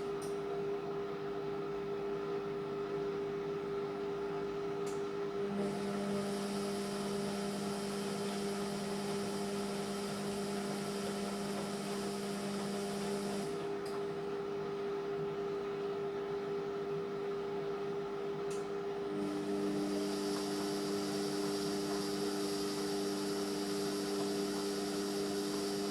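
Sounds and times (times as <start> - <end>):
washing machine motor hum: 1.2 - 25.9.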